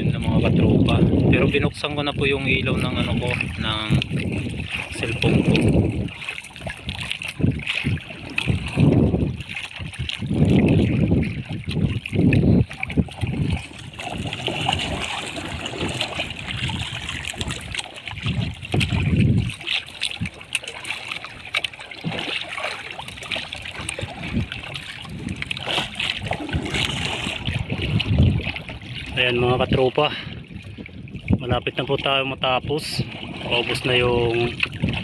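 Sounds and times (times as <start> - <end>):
water splashing against boat: 0.0 - 35.0.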